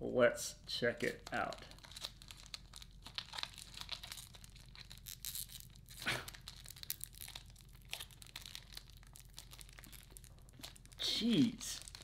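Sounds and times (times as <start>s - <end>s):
foil wrapper tearing and crinkling: 1.0s - 12.0s.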